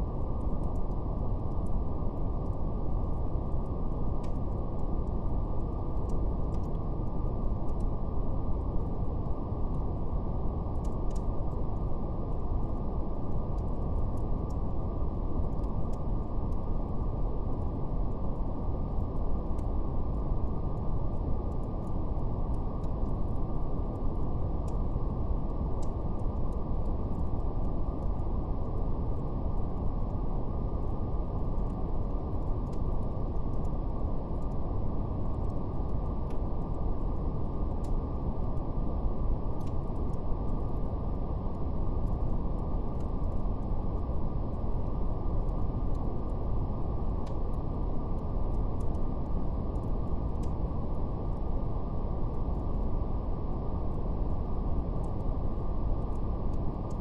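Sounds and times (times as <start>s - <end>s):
deep brown noise hiss: 0.0s - 57.0s
wood fire crackles: 0.0s - 57.0s.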